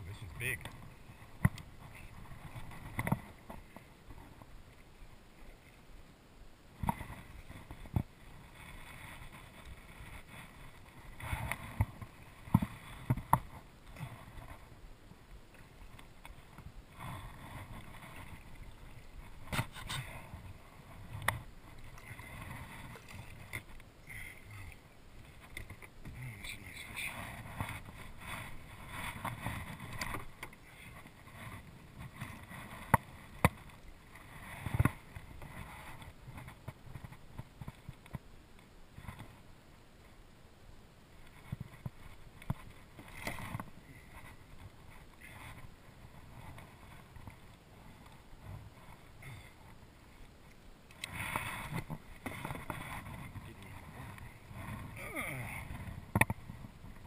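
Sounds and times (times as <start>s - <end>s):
water splashing beside kayak: 0.0s - 57.0s.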